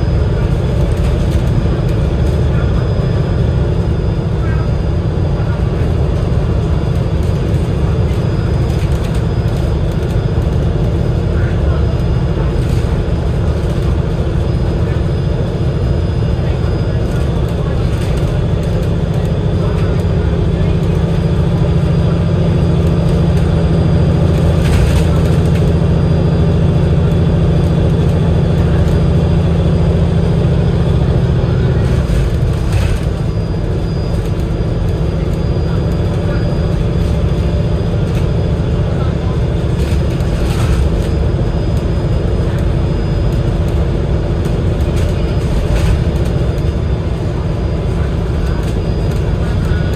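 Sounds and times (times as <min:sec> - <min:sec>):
bus diesel engine rumbling: 0:00.0 - 0:49.9.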